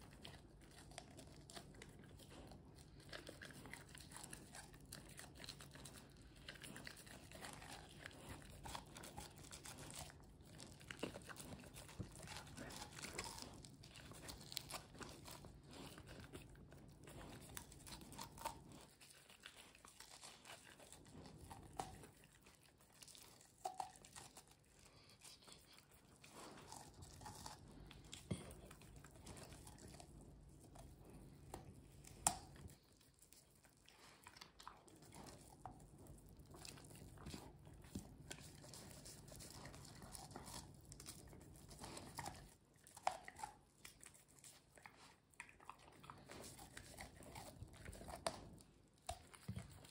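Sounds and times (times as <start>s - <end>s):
dog gnawing corn crunches: 0.0s - 49.9s.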